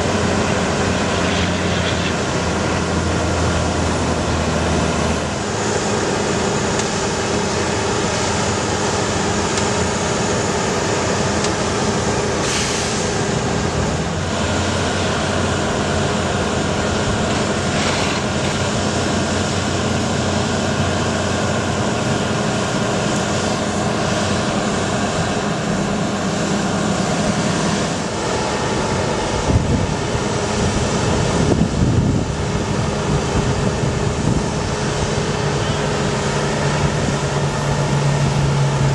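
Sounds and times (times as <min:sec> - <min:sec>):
truck engine humming: 0:00.0 - 0:38.9.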